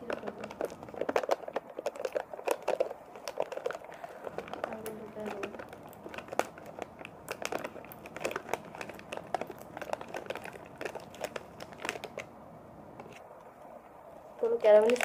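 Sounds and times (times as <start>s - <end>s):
plastic lid crackling open: 0.0s - 12.3s.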